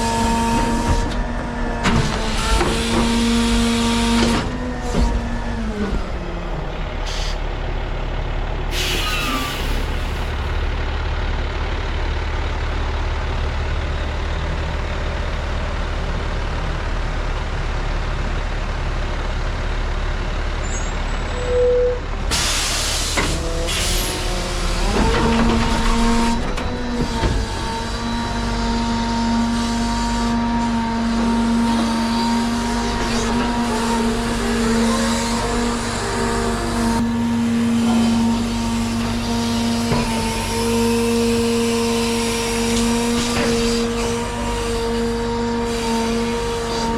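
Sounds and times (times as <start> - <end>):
heavy truck engine running: 0.0 - 46.9.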